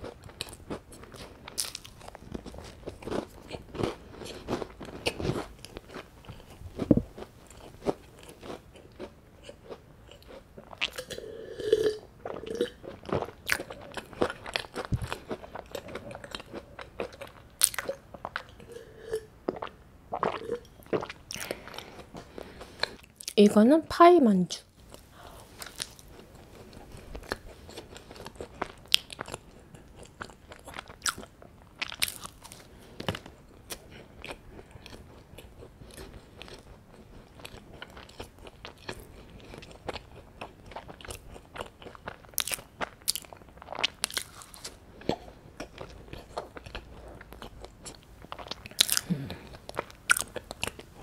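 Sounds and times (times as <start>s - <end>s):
chewing crisp pastry: 0.0s - 23.4s, 24.8s - 51.0s.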